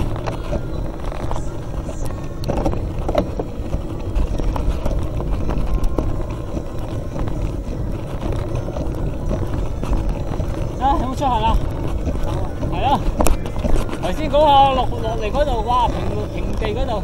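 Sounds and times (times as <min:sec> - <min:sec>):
bike rattles and knocks: 0:00.0 - 0:17.0
bike rolling rumble: 0:00.0 - 0:17.0.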